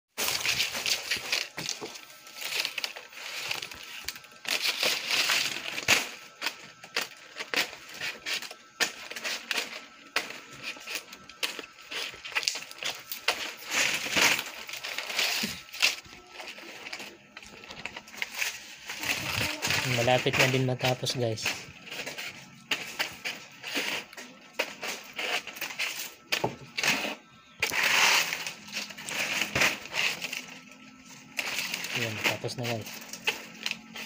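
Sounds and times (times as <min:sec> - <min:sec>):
palm leaves rustling and crackling: 0:00.2 - 0:34.0.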